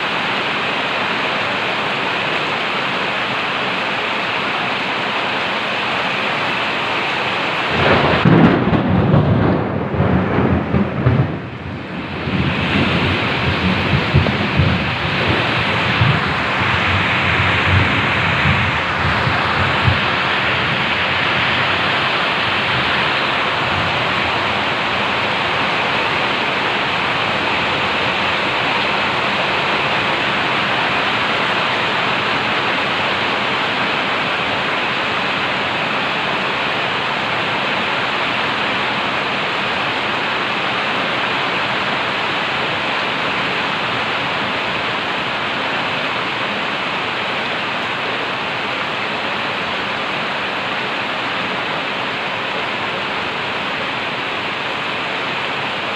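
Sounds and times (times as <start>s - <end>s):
heavy rain hissing: 0.0s - 55.9s.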